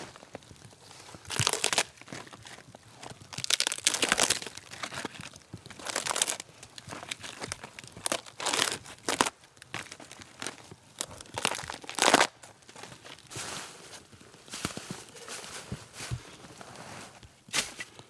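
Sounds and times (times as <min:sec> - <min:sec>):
dry material crunching: 0:00.0 - 0:18.0.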